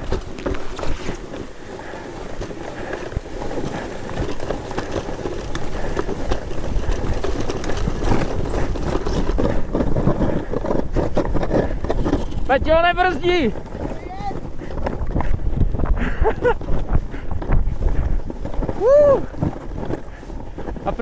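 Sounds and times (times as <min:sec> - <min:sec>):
knocks and scrapes: 0:00.0 - 0:01.5, 0:02.2 - 0:21.0
sled skis rushing through snow: 0:00.0 - 0:21.0.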